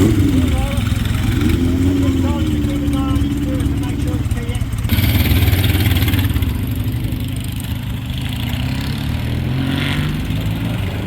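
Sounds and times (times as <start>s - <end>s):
motorcycle riding off: 0.0s - 11.0s.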